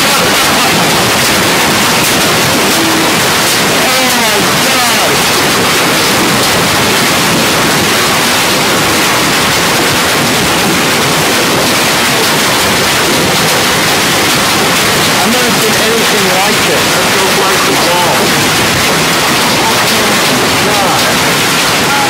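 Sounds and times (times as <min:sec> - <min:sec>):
hail and heavy rain: 0:00.0 - 0:22.0.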